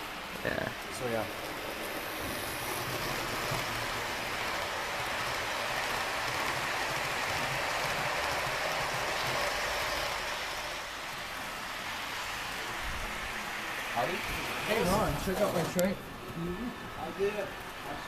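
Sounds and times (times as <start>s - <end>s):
model train rolling on track: 0.0s - 18.0s.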